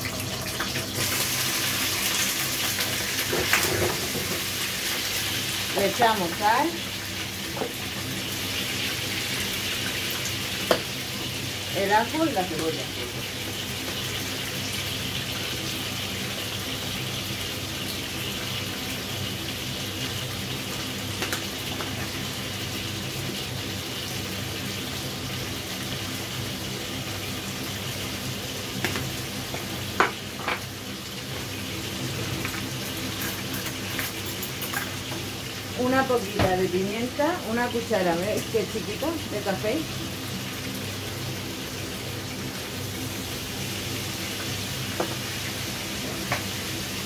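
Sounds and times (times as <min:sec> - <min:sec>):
chicken sizzling in hot oil: 0:00.0 - 0:47.0.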